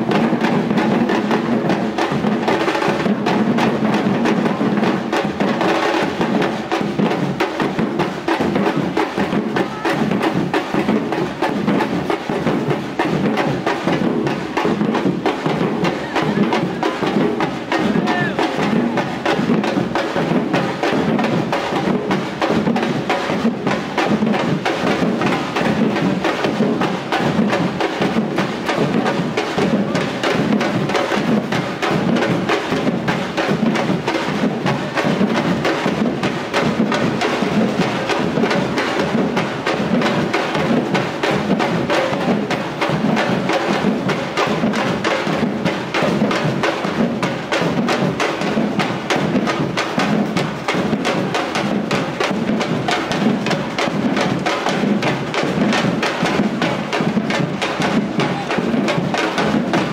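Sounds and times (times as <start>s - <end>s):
drum band playing: 0.0s - 59.9s.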